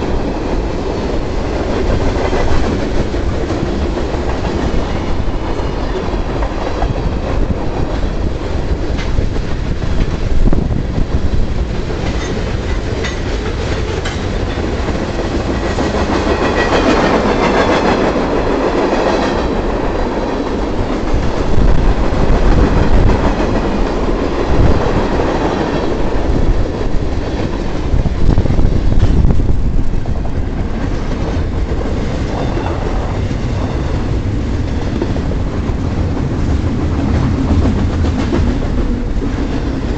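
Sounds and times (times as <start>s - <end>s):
heavy train rumble: 0.0s - 39.9s
train wheels clacking: 0.0s - 39.9s.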